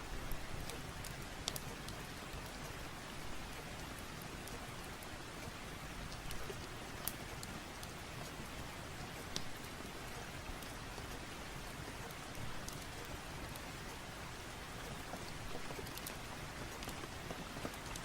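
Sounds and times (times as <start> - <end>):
steady rain: 0.0 - 18.0
raindrops ticking: 0.1 - 18.0.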